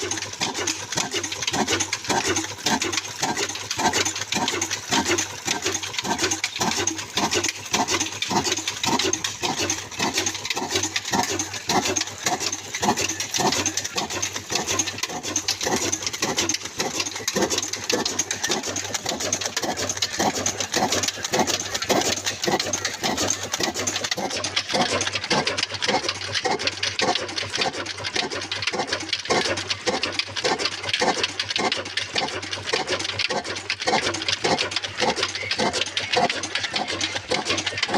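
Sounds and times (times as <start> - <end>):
mechanical clatter: 0.0 - 37.9
slow diesel engine running: 0.0 - 37.9.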